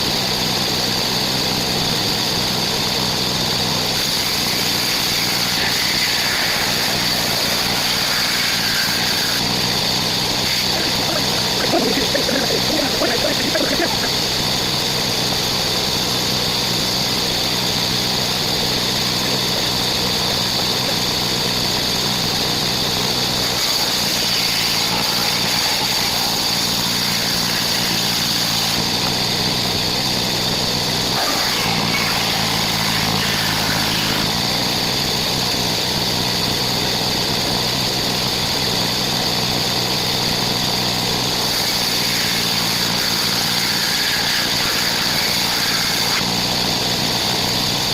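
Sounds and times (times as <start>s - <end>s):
powered wood saw whining: 0.0s - 47.9s.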